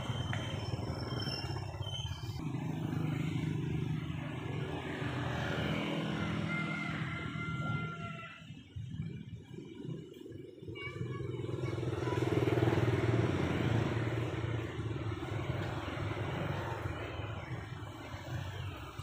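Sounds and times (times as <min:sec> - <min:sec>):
vehicle passing by: 0:00.0 - 0:08.5, 0:10.7 - 0:19.0.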